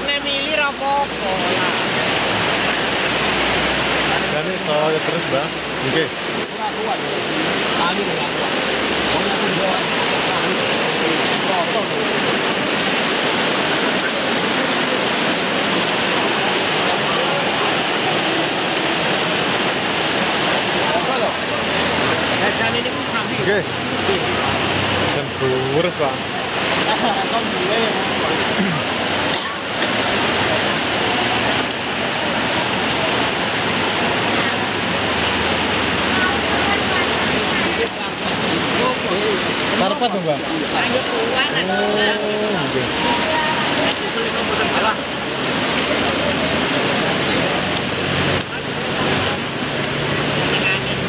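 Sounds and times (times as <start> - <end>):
heavy rain on a tent roof: 0.0 - 51.0.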